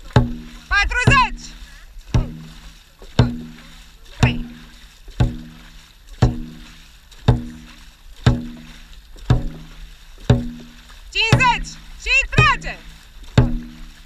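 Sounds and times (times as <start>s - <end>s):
faint rush of water: 0.0s - 14.0s
paddle stroke thuds: 0.0s - 14.0s.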